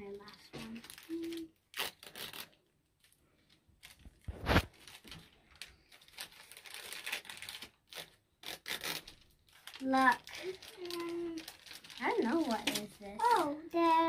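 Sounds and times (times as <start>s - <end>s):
plastic foil tearing and crinkling: 0.0s - 14.0s.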